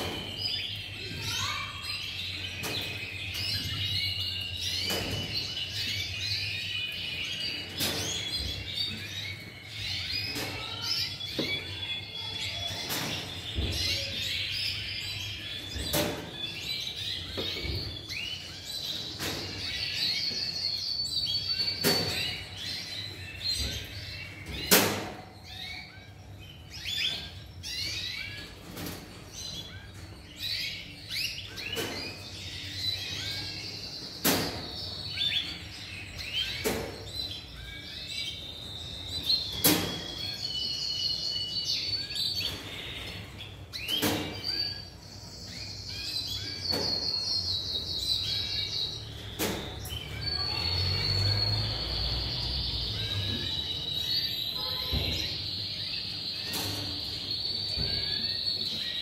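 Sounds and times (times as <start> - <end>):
canaries chirping and trilling: 0.0 - 59.0.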